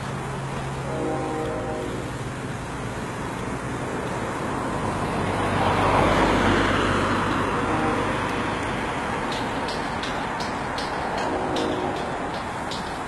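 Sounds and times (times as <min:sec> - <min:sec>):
freight train passing: 0:00.0 - 0:13.0
road traffic rumble: 0:00.0 - 0:13.0.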